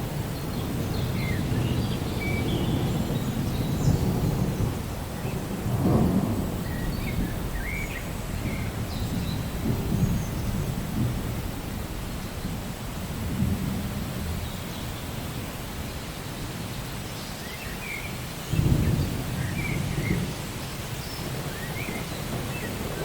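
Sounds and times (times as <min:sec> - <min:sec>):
thunder rumbling: 0:00.0 - 0:16.8, 0:18.4 - 0:23.0
steady rain: 0:00.0 - 0:23.0.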